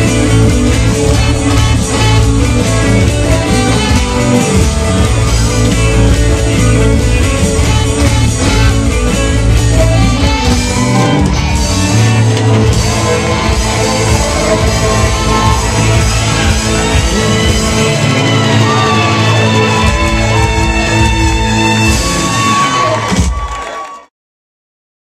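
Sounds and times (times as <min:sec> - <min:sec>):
heavy bass line: 0:00.0 - 0:23.4
rock band playing live: 0:00.0 - 0:23.5
electric guitar: 0:00.0 - 0:23.8.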